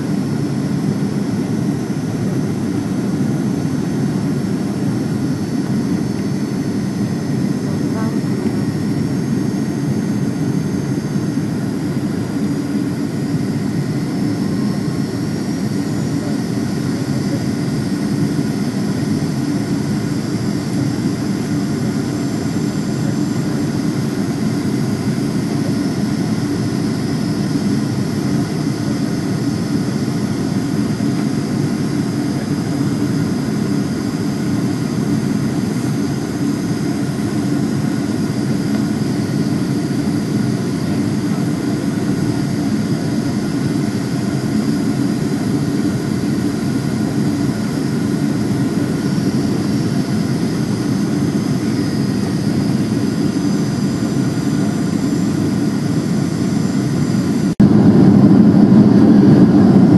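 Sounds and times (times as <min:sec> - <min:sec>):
airliner cabin engine and airflow rush: 0:00.0 - 0:59.9
high engine whine: 0:00.0 - 0:59.9.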